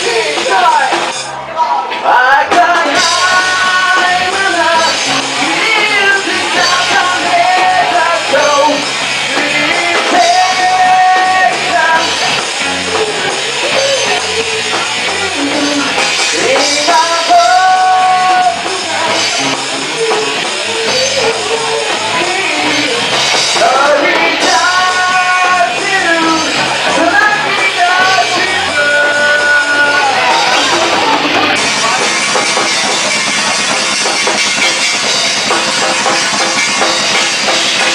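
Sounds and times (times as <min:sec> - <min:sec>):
rock band playing: 0:00.0 - 0:37.9
lead singer holding long notes: 0:01.6 - 0:32.3.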